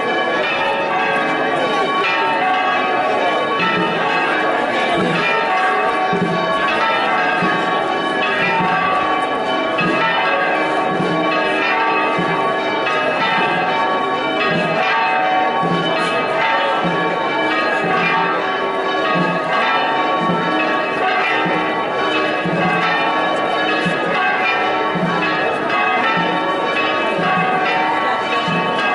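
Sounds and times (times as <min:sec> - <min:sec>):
church bells pealing: 0:00.0 - 0:28.9
low bell striking steadily: 0:00.0 - 0:28.9.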